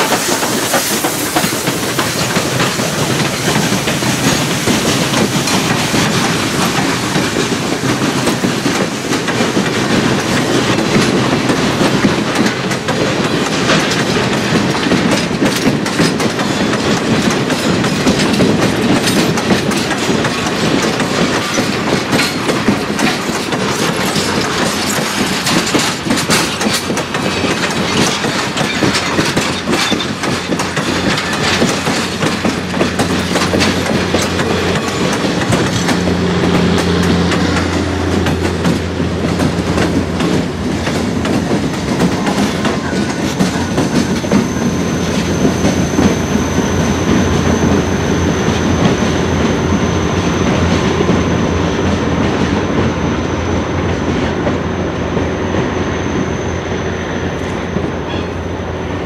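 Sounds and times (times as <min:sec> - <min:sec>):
diesel locomotive hum: 0:00.0 - 0:59.0
train cars rumbling past: 0:00.0 - 0:59.0.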